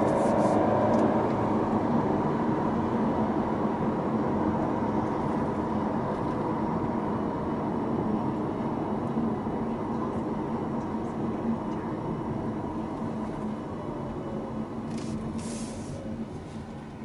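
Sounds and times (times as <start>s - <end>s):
road and tyre noise: 0.0s - 17.0s.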